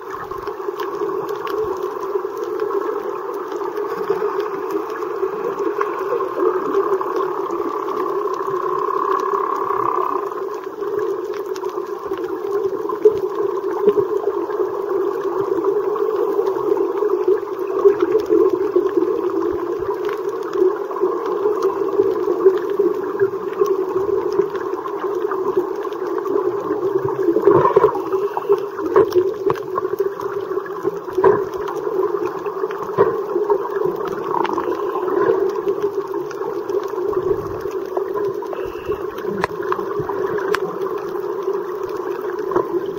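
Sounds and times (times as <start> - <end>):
clicks and crackles: 0.0 - 42.9
low underwater drone: 0.0 - 42.9.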